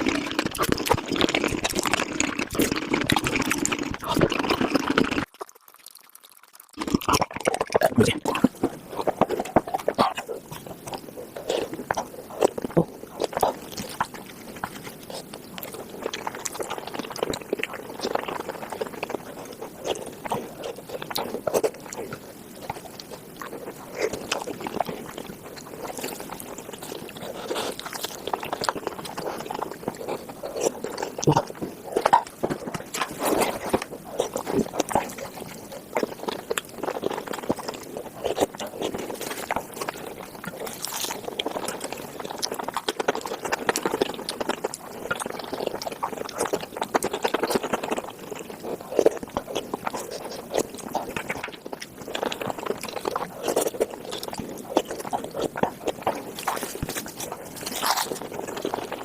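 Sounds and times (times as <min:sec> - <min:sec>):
chewing and slurping: 0:00.0 - 0:59.0.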